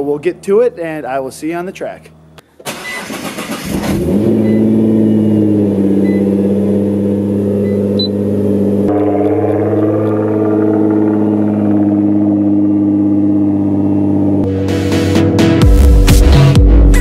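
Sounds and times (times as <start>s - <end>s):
car engine starting and idling: 2.6s - 17.0s.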